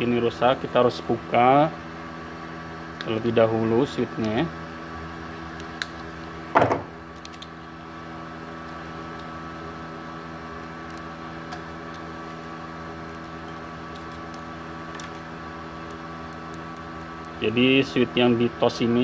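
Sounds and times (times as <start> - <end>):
welder humming: 0.0 - 19.0.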